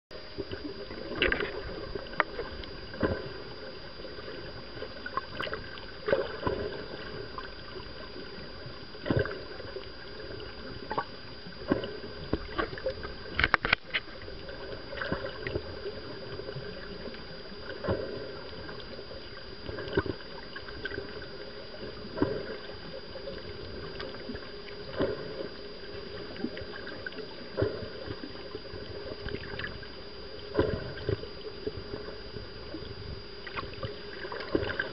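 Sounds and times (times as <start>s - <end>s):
faint constant whine: 0.1s - 34.9s
underwater rush of water: 0.2s - 34.9s.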